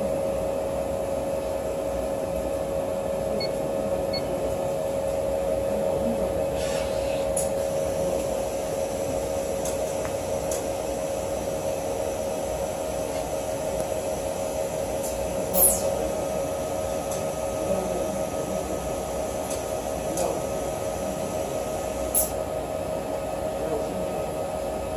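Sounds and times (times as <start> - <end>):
machine hum with steady tones: 0.0 - 24.9.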